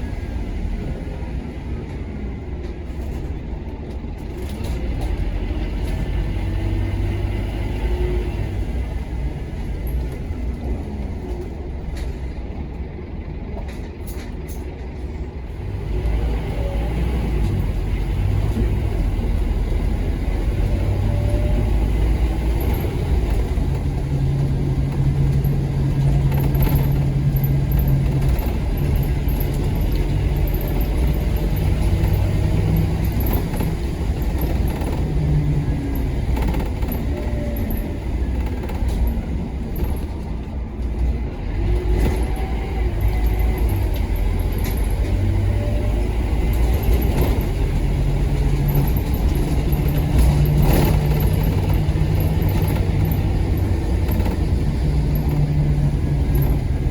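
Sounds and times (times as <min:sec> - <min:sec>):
bus diesel engine accelerating: 0:00.0 - 0:56.9.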